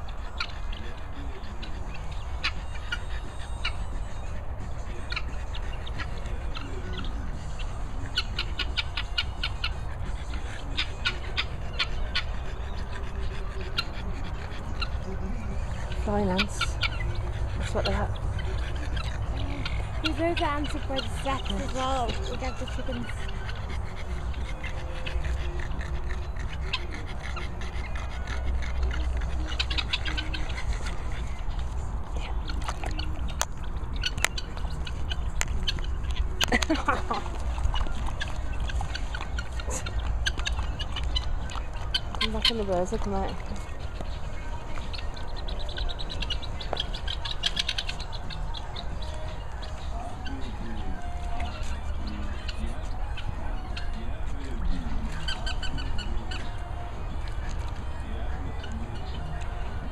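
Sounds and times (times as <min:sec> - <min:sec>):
chickens clucking: 0:00.0 - 0:59.9
guineafowl harsh clicking calls: 0:00.0 - 0:59.9.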